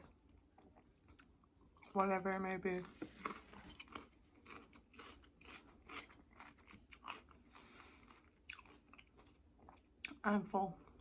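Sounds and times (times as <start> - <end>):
person chewing: 0.1 - 10.2.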